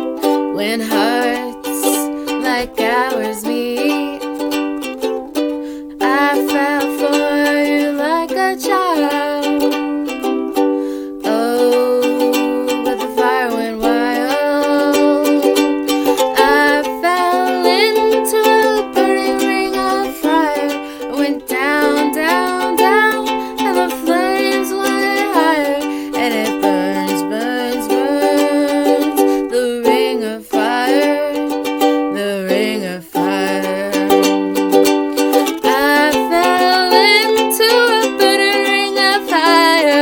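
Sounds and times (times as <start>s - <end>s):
ukulele strumming: 0.0s - 40.0s.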